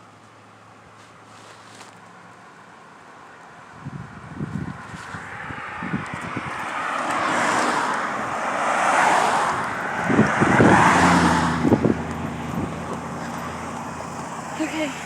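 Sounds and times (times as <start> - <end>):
cars passing by: 0.0 - 15.0
low engine hum: 0.0 - 15.0.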